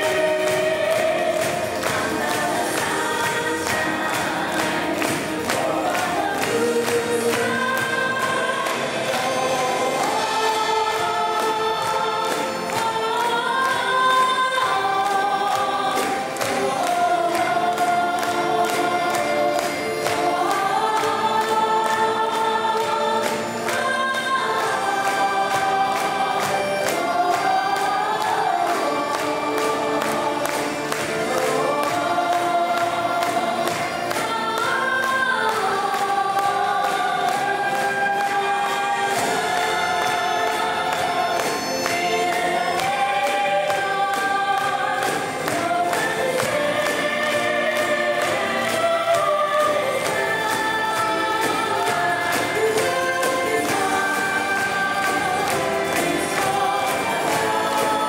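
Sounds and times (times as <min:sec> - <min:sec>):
live band backing: 0:00.0 - 0:58.0
women's choir singing in harmony: 0:00.0 - 0:58.0.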